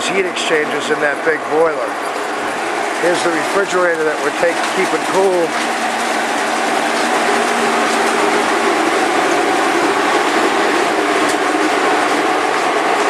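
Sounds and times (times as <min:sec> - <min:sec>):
constant machine hum: 0:00.0 - 0:13.0.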